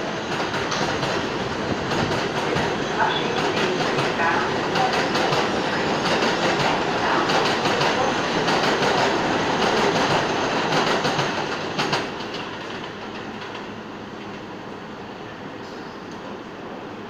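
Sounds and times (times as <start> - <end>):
subway train wheels clattering: 0.0 - 17.0.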